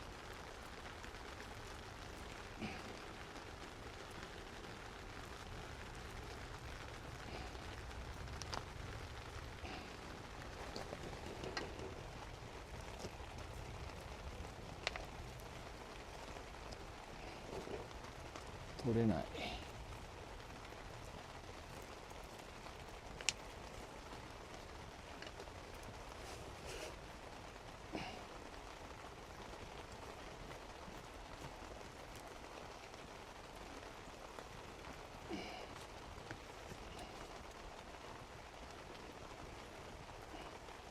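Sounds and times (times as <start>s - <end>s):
single raindrops hitting: 0.0s - 40.9s
steady rain falling: 0.0s - 40.9s.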